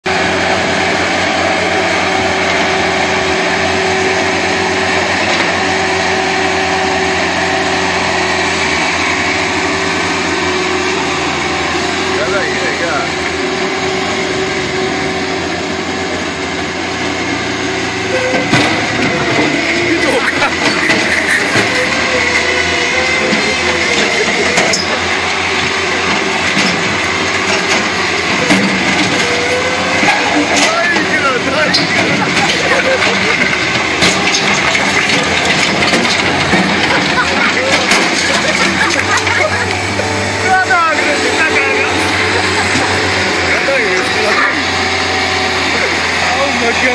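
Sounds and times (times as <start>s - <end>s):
loader engines droning: 0.0s - 46.9s.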